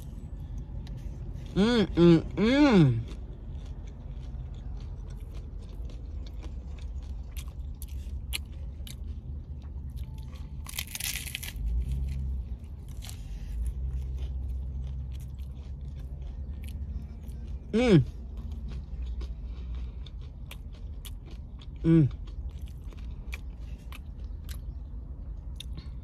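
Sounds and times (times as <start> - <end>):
person crunching taco shell: 0.0 - 26.0.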